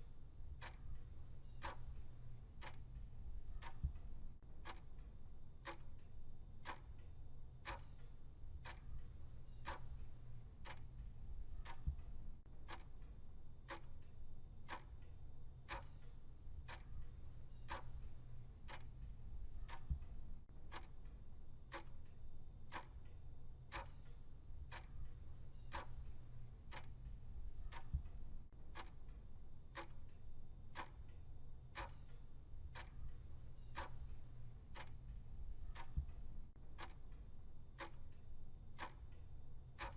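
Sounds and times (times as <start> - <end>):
clock ticking: 0.0 - 39.9
faint low hum: 0.0 - 39.9.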